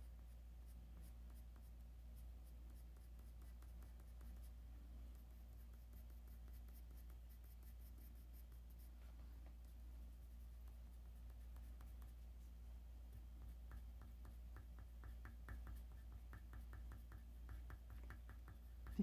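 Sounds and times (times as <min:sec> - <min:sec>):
pencil scratching on paper: 0:00.0 - 0:12.5, 0:13.1 - 0:19.0.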